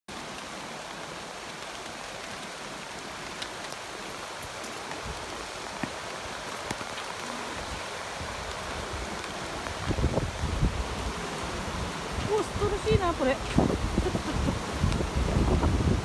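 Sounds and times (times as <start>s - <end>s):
water rushing: 0.1s - 16.0s.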